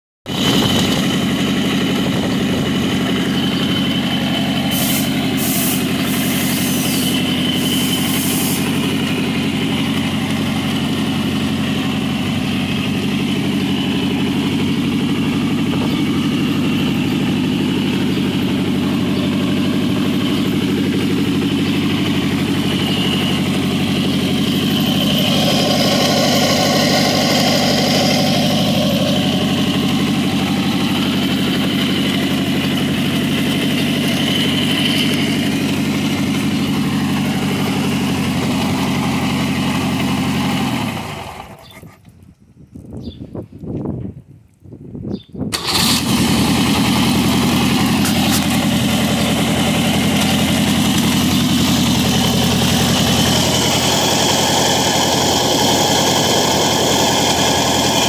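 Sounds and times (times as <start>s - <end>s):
boat engine idling: 0.3s - 41.6s, 45.6s - 58.0s.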